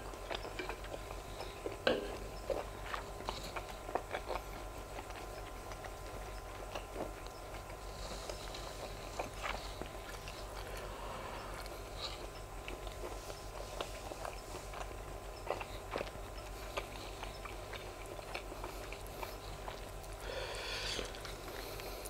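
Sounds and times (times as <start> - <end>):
person chewing: 0.0 - 22.0
steady low hum: 0.0 - 22.0.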